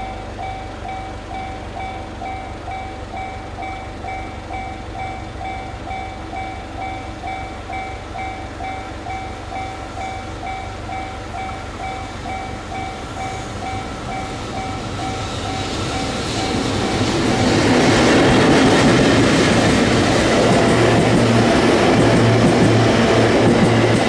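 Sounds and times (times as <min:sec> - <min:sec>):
railroad crossing warning bell: 0:00.0 - 0:24.0
train rumble: 0:00.0 - 0:24.0.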